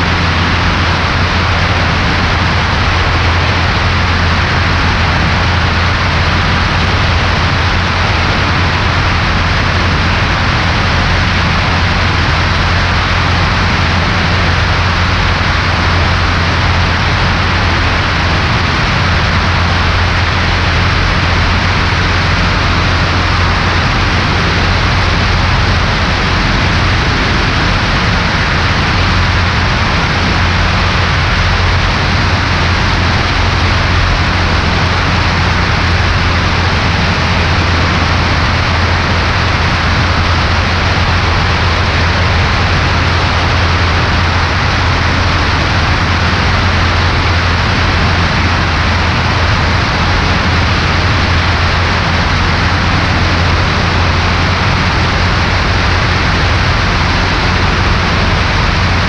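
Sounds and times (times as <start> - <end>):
propeller aircraft engine drone: 0.0 - 59.0
rushing air: 0.0 - 59.0.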